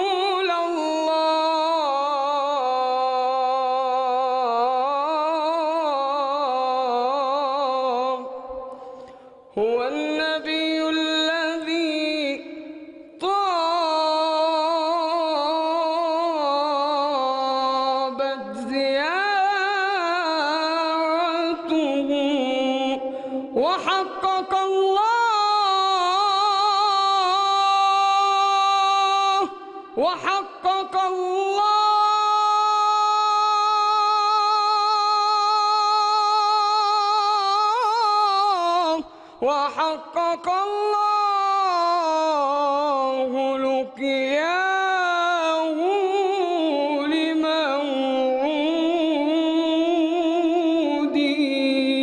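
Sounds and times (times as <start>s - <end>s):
man singing unaccompanied hymn: 9.5s - 12.5s, 13.2s - 52.0s.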